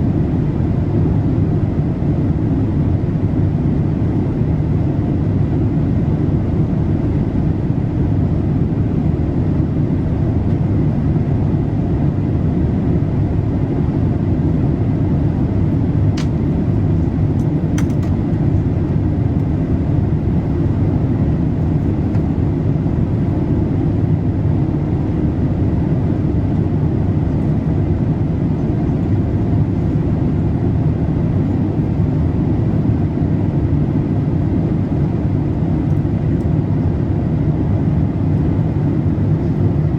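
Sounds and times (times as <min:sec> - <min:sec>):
airliner cabin engine hum: 0:00.0 - 0:39.9.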